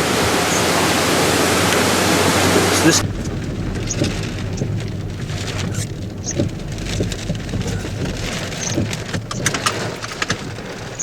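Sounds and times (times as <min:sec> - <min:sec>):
rain hitting a car: 0:00.0 - 0:11.0
vehicle rumble: 0:00.0 - 0:11.0.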